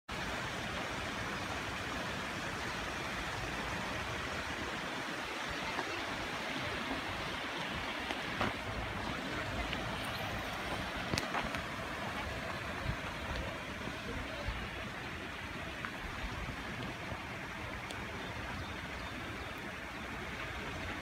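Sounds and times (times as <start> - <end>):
paddlewheel aerators churning water: 0.1 - 21.0.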